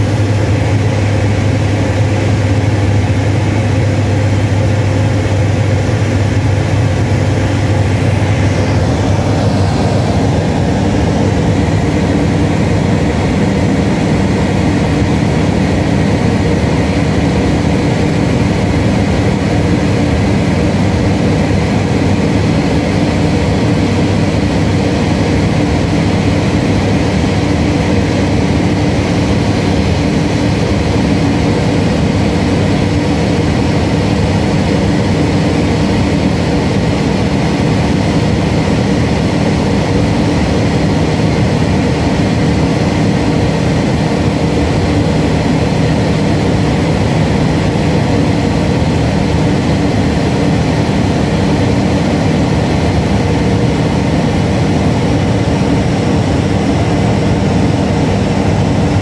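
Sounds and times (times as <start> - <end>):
airflow rushing: 0.0 - 59.0
light aircraft engine and propeller: 0.0 - 59.0.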